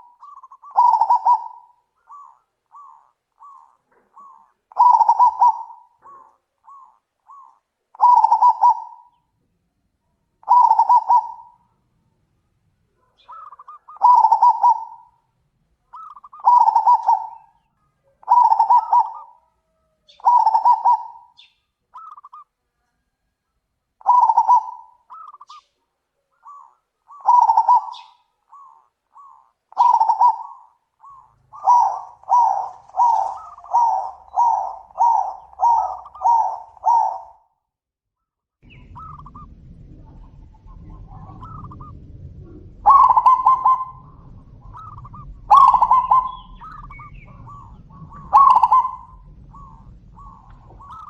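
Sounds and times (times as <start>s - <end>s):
doves cooing: 0.0s - 9.3s, 10.4s - 12.2s, 12.9s - 23.4s, 24.0s - 37.5s, 38.6s - 51.0s
faint low rumble: 0.0s - 37.4s, 38.6s - 51.0s.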